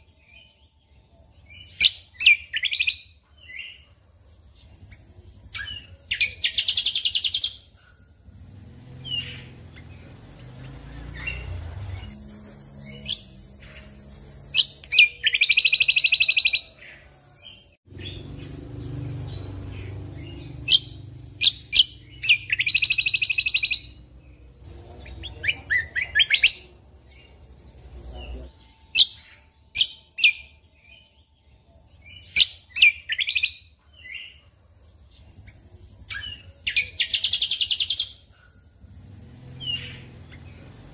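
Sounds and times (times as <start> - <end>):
bird singing fast trills: 0.0 - 40.9.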